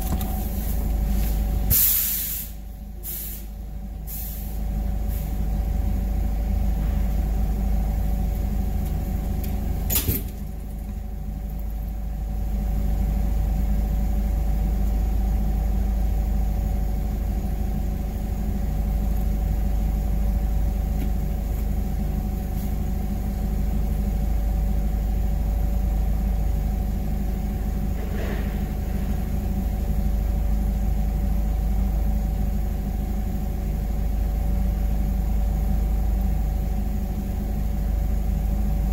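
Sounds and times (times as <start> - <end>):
forklift engine rumbling: 0.0 - 38.9.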